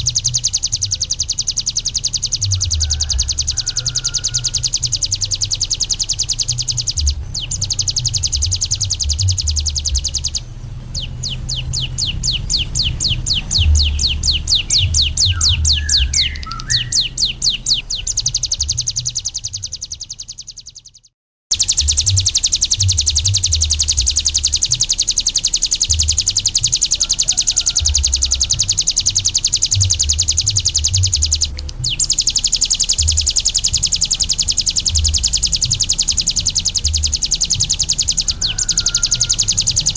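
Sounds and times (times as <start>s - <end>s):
bird singing high-pitched trill: 0.0s - 39.9s.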